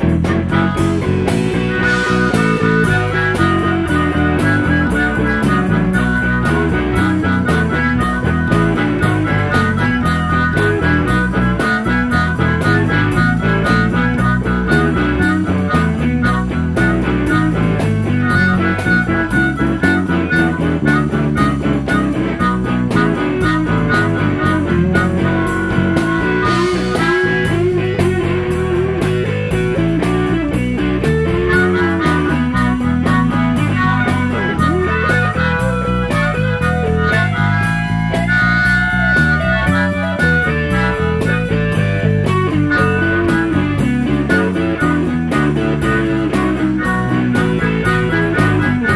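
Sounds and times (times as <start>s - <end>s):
electric guitar: 0.0s - 48.9s
harmonica bent notes: 0.0s - 48.9s
steady drum beat: 0.0s - 48.9s.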